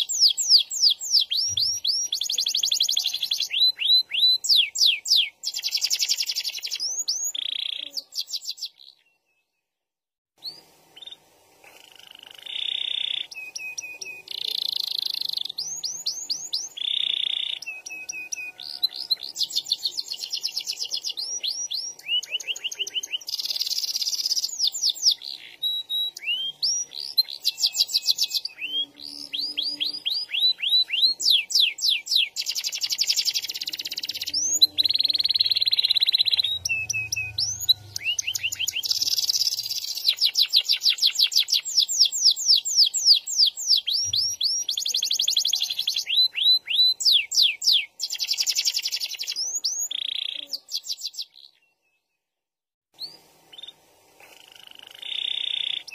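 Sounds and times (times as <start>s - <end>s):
canary singing trills: 0.0s - 9.6s, 10.4s - 52.1s, 53.0s - 55.9s.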